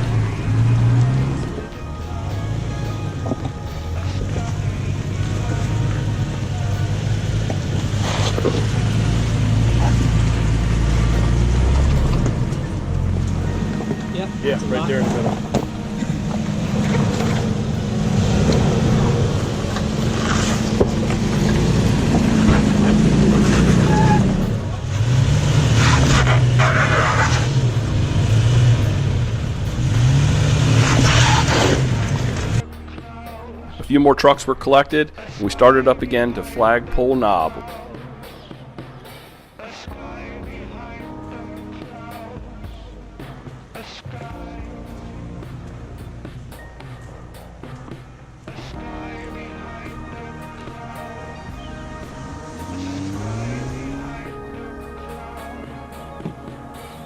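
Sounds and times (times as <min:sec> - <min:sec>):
truck engine and drivetrain rumble: 0:00.0 - 0:38.0, 0:40.2 - 0:57.0.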